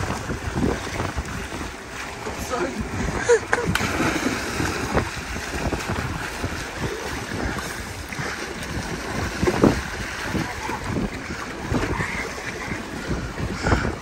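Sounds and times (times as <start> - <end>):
water rushing and churning: 0.0 - 14.0
wind buffeting microphone: 0.0 - 14.0.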